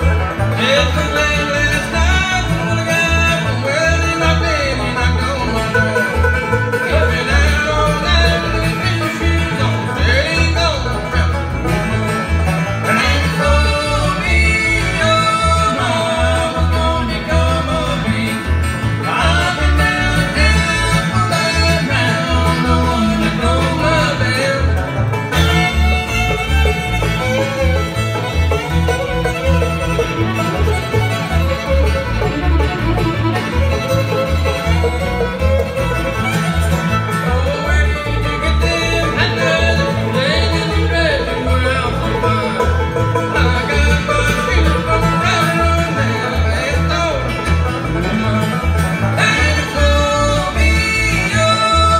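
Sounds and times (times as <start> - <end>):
bluegrass band playing: 0.0 - 51.9.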